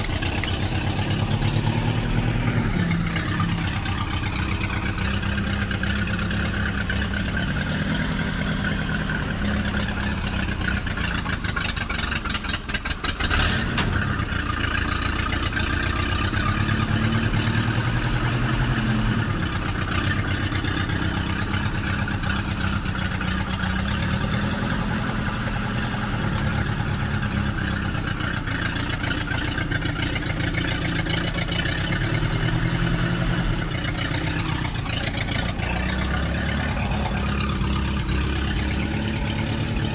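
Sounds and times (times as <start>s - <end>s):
engine idling and revving: 0.0s - 39.9s.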